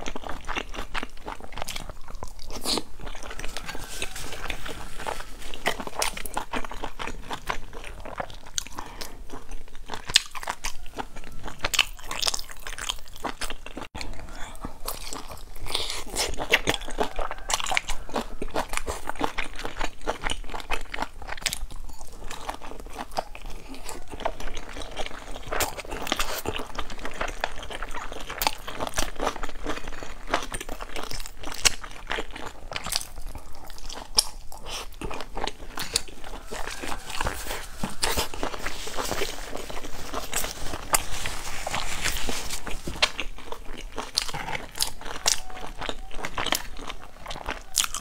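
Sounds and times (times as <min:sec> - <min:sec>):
chewing crunchy bun: 0:00.0 - 0:48.0.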